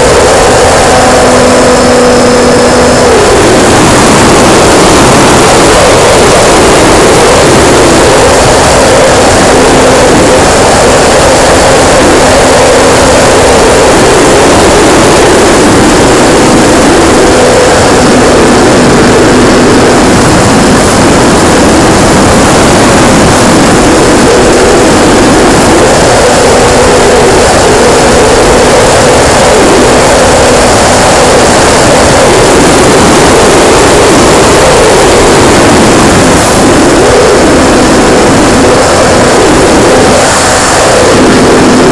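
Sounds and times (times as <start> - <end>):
loud wind rush: 0.0 - 41.9
model plane motor and propeller: 0.0 - 41.9.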